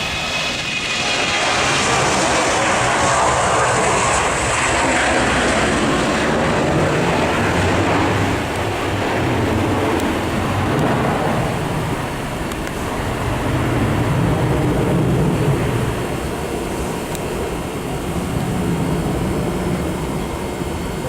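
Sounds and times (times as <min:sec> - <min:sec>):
jet airliner taking off: 0:00.0 - 0:21.0.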